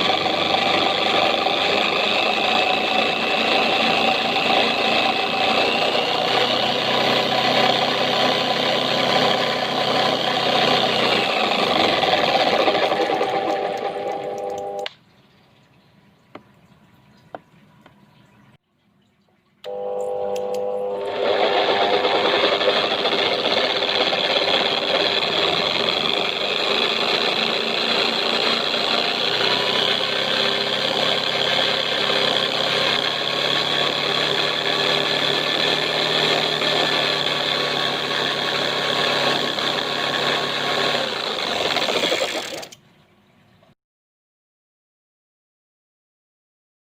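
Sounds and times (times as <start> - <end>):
electric drill running lathe: 0.0 - 14.8, 19.7 - 42.8.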